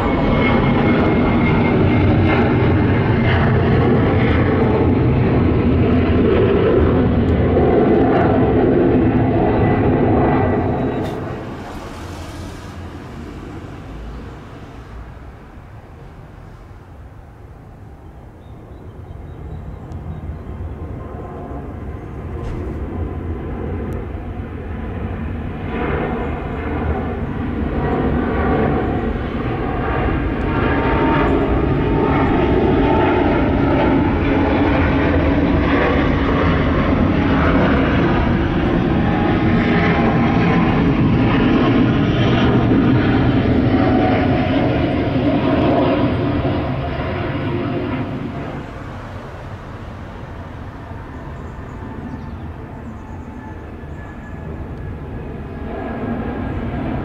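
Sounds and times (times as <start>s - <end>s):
jet airliner engines rumbling: 0.0s - 57.0s.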